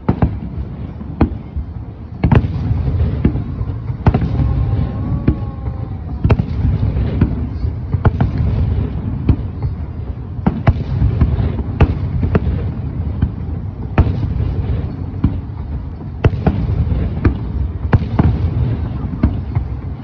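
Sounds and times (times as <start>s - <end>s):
fireworks bursting with bangs: 0.0s - 20.0s.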